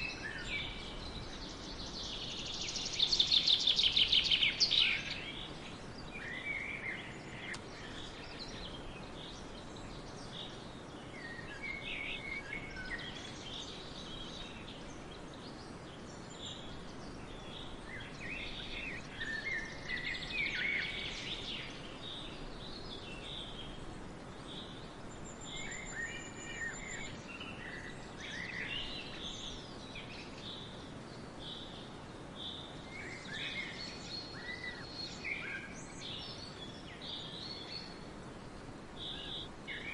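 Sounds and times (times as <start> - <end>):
background hiss: 0.0 - 39.9
songbirds chirping and singing: 0.0 - 39.9.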